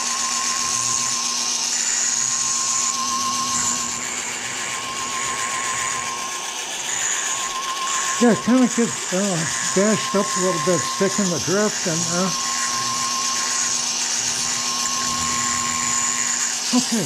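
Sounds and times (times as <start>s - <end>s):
grinding on steel: 0.0s - 17.0s
rotary tool whining: 0.0s - 17.0s.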